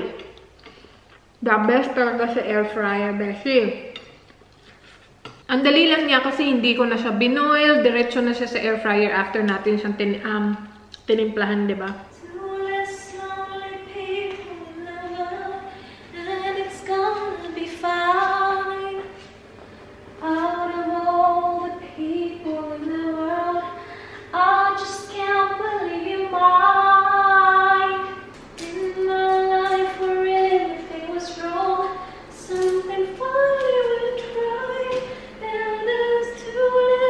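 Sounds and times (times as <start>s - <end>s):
woman singing unaccompanied: 5.5s - 19.2s, 20.2s - 37.0s.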